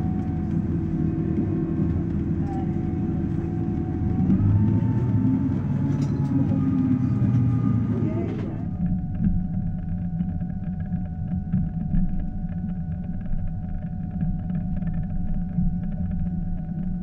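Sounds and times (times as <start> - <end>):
faint whine: 0.0 - 17.0
train interior rumble: 0.0 - 17.0.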